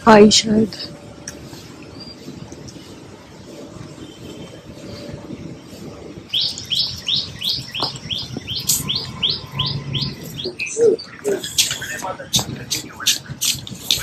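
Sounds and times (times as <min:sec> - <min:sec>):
bird chirping: 0:01.3 - 0:14.0.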